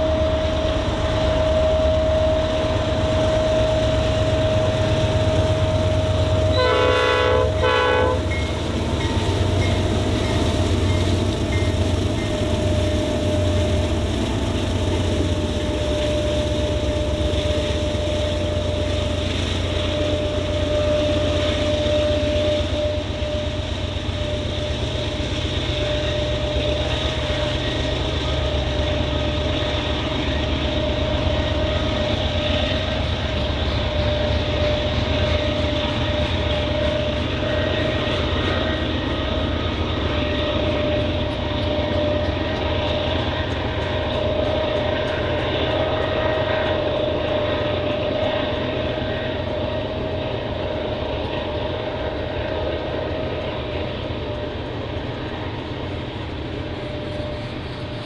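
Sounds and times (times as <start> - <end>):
steady whine: 0.0 - 58.0
train rumbling past: 0.0 - 58.0.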